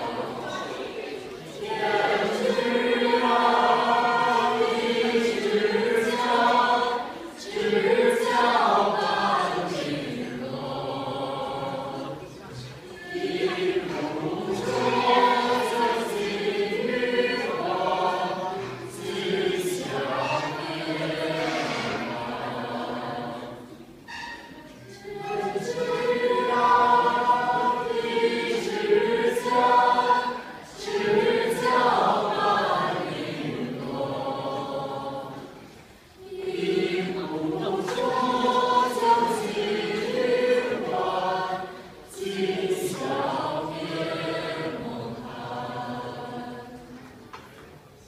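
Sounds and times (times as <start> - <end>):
choir singing: 0.0 - 48.0.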